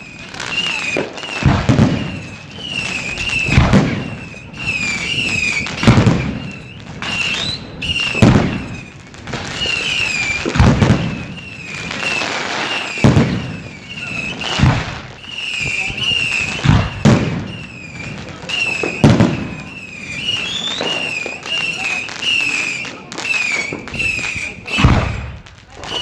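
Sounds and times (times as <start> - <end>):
fireworks banging: 0.0 - 26.0
fireworks crackling: 0.0 - 26.0.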